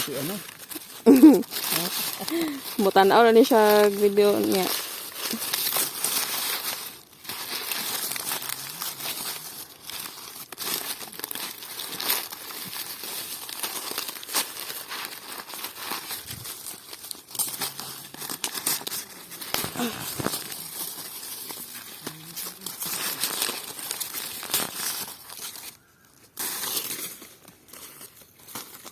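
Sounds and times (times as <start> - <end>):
dry corn leaves rustling: 0.0 - 28.9.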